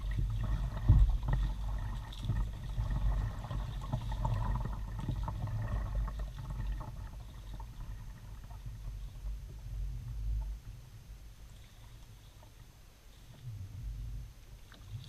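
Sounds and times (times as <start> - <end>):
paddle splashes and trickling water: 0.0 - 9.6, 11.4 - 13.5, 14.4 - 15.0
steady low rumble: 0.0 - 15.0.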